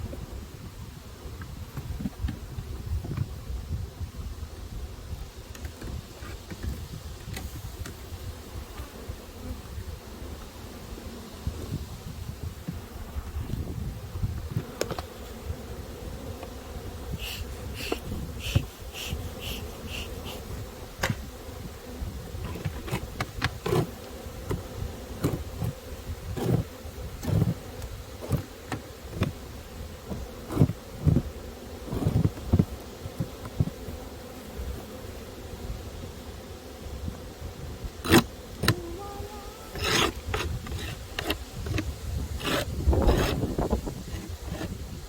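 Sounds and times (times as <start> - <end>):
honeybees buzzing: 0.1 - 45.0.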